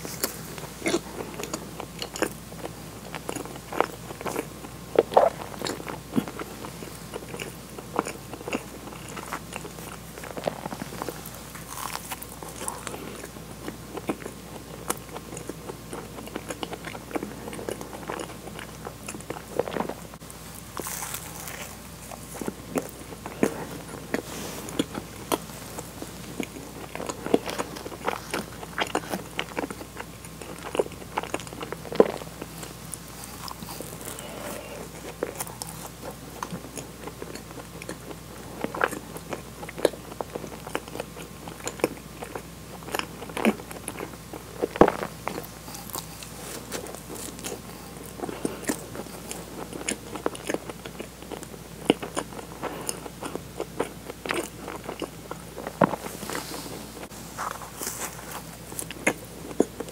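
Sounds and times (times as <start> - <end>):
chewing soft donut: 0.0 - 59.9.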